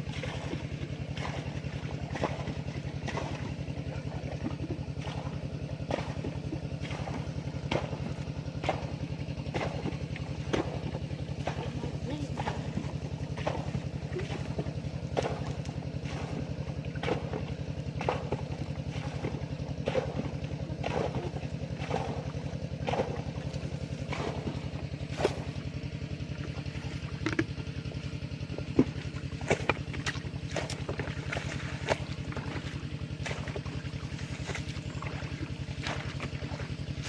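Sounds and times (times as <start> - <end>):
small engine chugging: 0.0 - 37.0.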